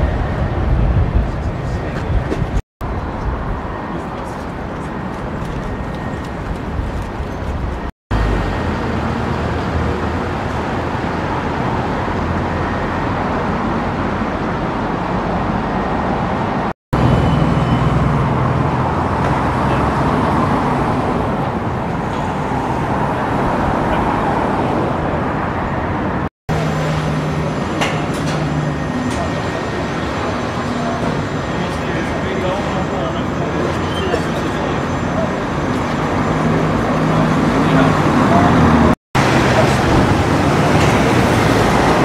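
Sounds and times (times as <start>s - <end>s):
cars and buses running: 0.0s - 42.0s.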